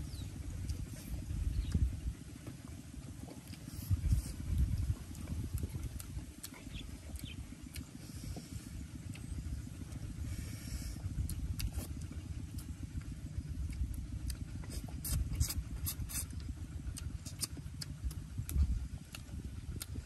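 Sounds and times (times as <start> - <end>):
wind rumbling on microphone: 0.0 - 20.0
clicks and smacks of eating food: 2.5 - 10.1, 11.2 - 20.0.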